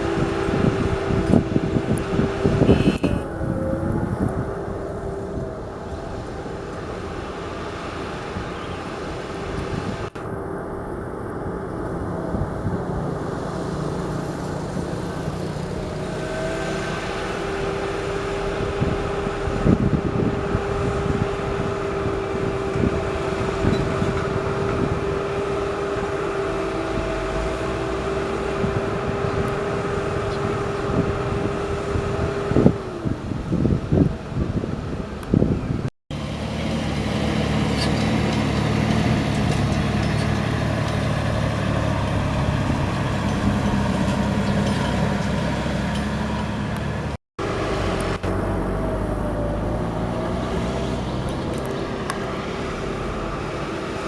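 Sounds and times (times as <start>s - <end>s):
constant whine: 0.0s - 54.0s
diesel machinery running: 0.0s - 54.0s.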